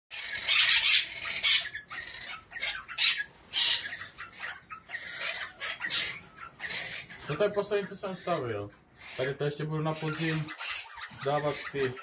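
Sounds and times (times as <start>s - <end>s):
faint bird chatter: 0.1s - 12.0s
parrots squawking: 0.1s - 12.0s.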